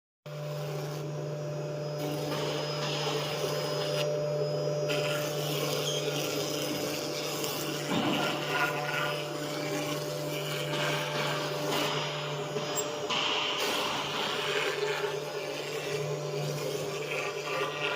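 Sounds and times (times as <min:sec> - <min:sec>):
machine hum: 0:00.3 - 0:17.9.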